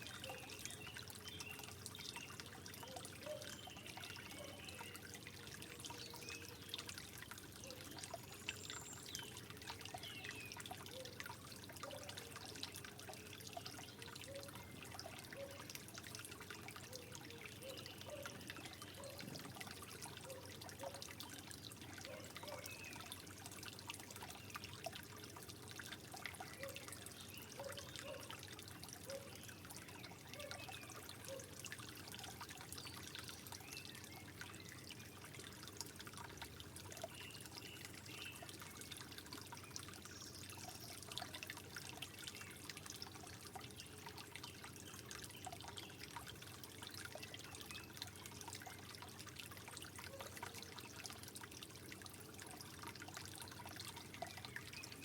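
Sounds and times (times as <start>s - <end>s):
drips and bubbling plinks: 0.0s - 55.0s
water trickling: 0.0s - 55.0s.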